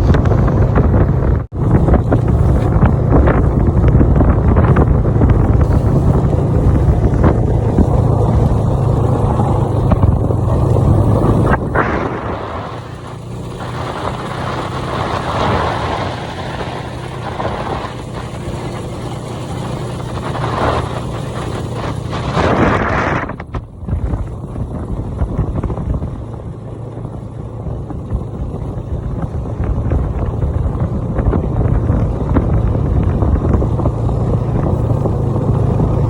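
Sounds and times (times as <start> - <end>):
snowmobile engine running: 0.0 - 36.0
wind noise on microphone: 0.0 - 36.0.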